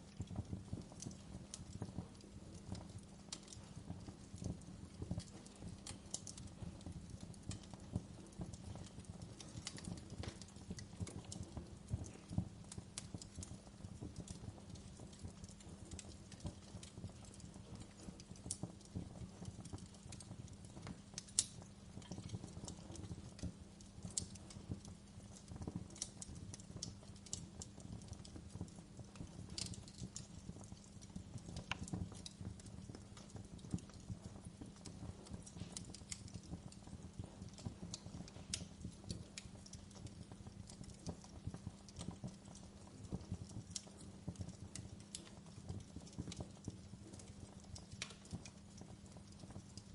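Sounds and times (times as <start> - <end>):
logs crackling and popping: 0.0 - 49.9
low rumble of flames: 0.0 - 49.9.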